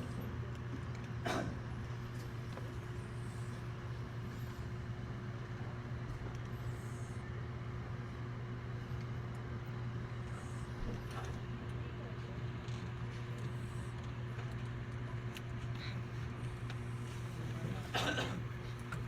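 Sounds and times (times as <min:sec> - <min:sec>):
low mechanical motor hum: 0:00.0 - 0:19.0.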